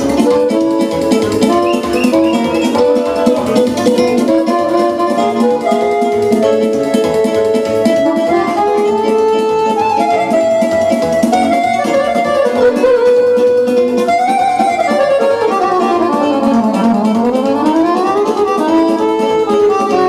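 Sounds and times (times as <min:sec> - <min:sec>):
electronic accordion melody: 0:00.0 - 0:20.0.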